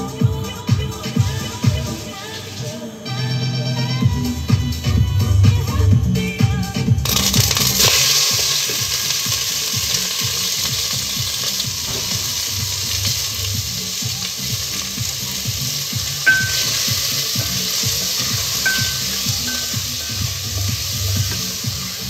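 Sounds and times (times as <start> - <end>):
food sizzling in a pot: 0.0 - 22.0.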